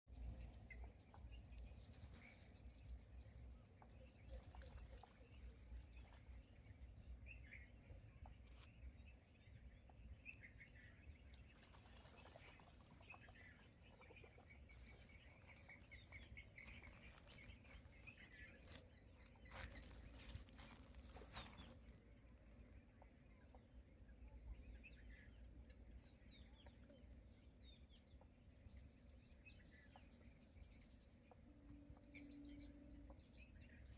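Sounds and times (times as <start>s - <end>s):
faint birds chirping: 0.1s - 33.9s.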